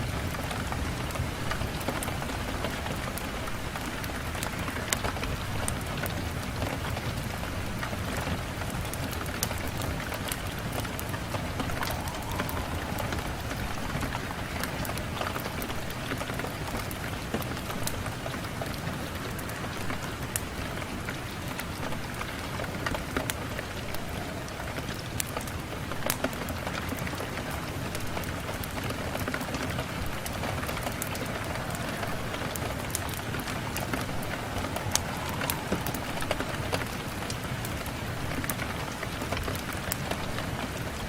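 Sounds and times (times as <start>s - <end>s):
rain against window glass: 0.0s - 41.0s.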